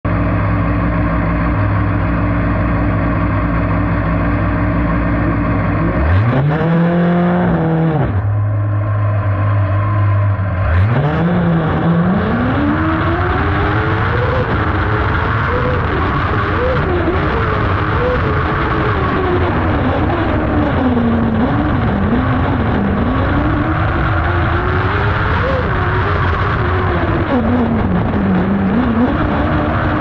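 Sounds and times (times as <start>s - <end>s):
buggy engine idling and revving: 0.0s - 30.0s.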